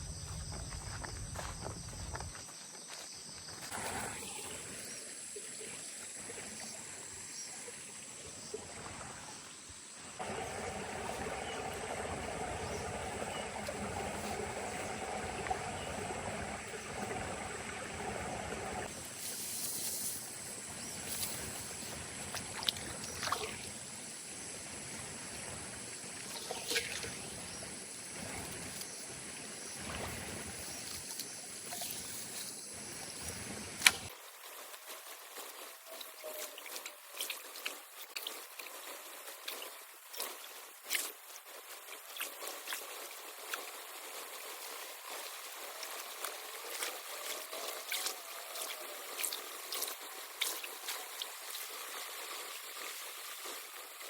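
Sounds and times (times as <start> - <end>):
water sloshing and trickling: 3.6 - 54.0.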